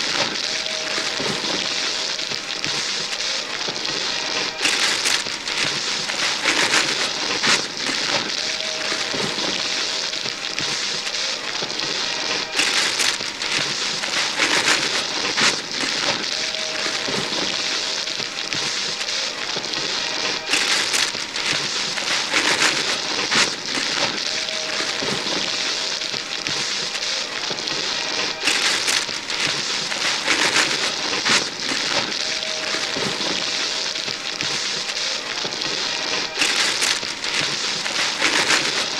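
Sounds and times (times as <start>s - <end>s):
wrapping paper tearing and rustling: 0.0s - 38.9s.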